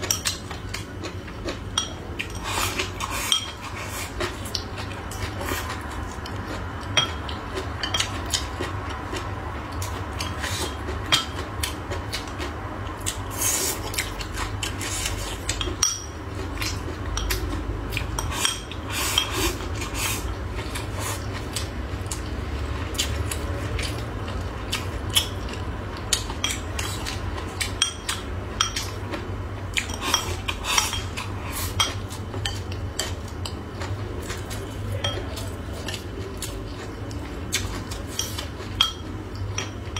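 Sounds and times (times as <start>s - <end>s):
chewing and slurping: 0.0s - 39.8s
steady low hum: 0.0s - 39.9s.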